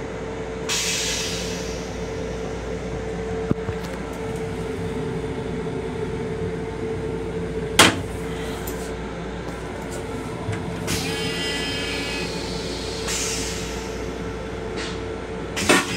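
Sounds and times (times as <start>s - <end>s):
railcar humming: 0.0s - 15.9s.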